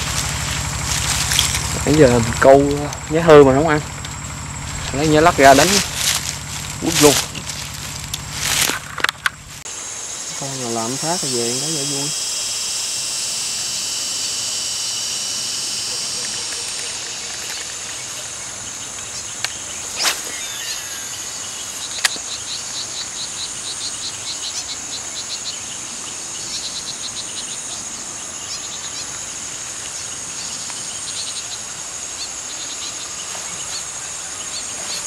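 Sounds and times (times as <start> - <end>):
insects buzzing: 0.0 - 35.0
pulsed insect chirping: 0.0 - 35.0.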